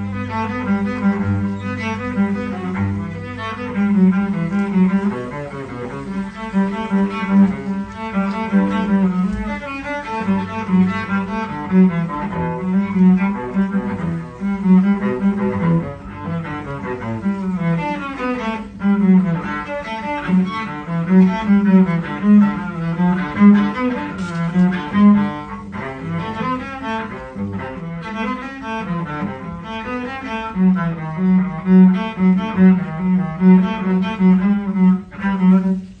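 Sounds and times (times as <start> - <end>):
solo cello bowed melody: 0.0 - 36.0.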